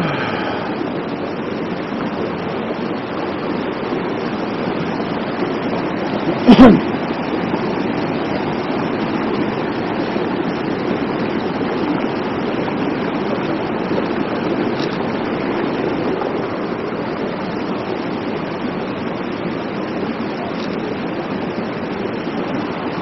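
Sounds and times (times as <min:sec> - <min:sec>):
stream rushing over boulders: 0:00.0 - 0:23.0.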